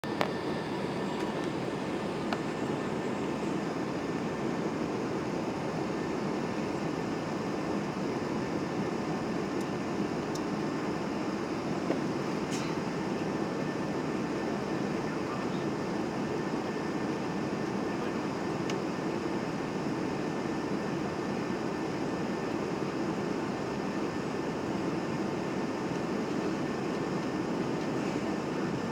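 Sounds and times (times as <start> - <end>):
airplane cabin noise: 0.0 - 28.9.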